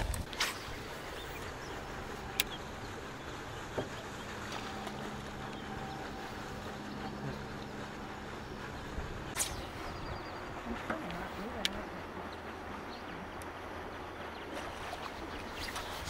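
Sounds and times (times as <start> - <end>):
open-air boat noise: 0.0 - 16.0.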